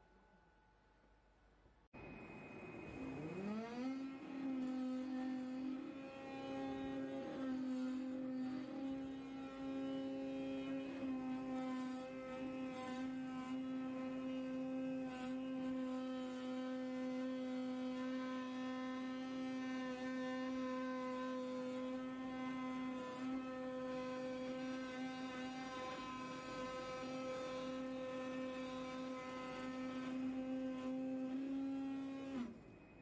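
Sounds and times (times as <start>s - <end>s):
cutting machine knife humming: 2.0s - 32.6s.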